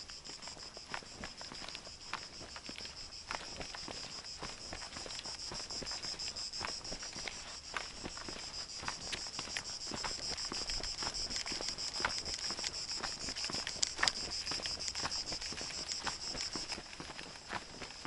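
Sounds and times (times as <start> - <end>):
footsteps crunching: 0.0 - 18.0
insects chirring: 0.0 - 18.0.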